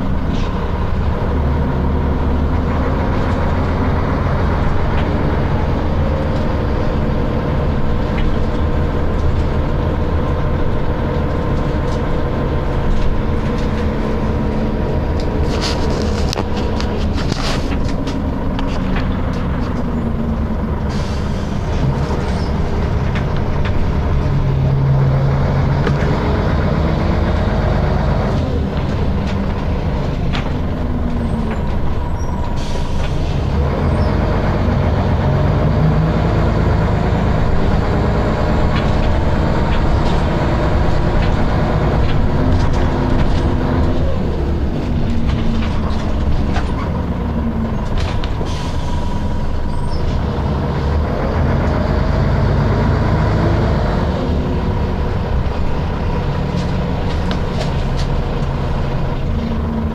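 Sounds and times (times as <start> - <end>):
bus engine and gearbox whine: 0.0 - 59.9.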